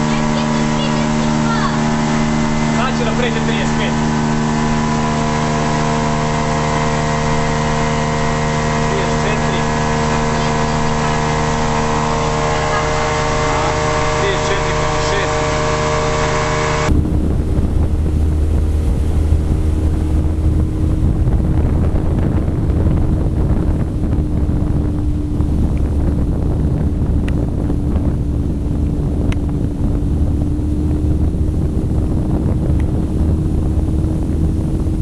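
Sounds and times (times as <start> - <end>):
outboard engine rumble: 0.0 - 35.0
wind rushing over microphone: 0.0 - 35.0.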